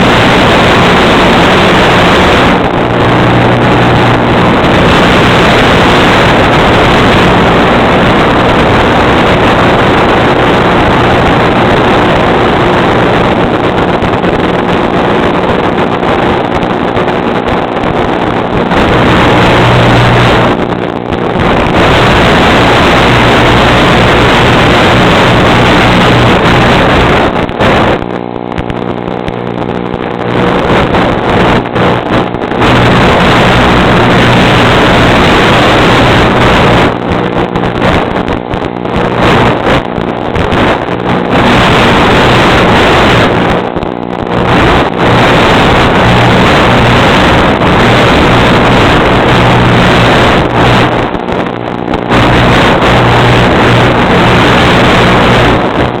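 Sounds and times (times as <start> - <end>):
electric motor hum: 0.0 - 56.0
wind on microphone: 0.0 - 56.0.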